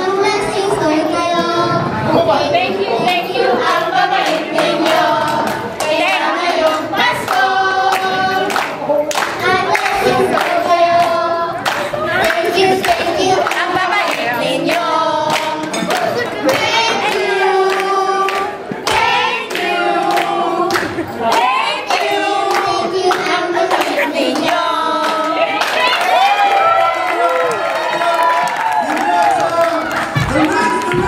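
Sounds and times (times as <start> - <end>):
women and girls singing: 0.0 - 26.3.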